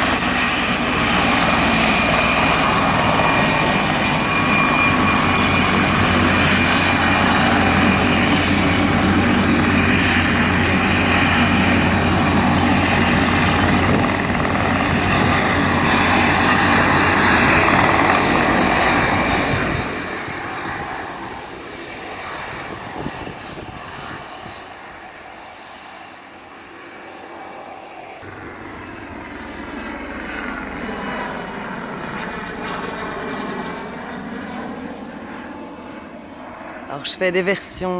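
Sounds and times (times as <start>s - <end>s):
helicopter turbine whine and rotor: 0.0s - 37.9s.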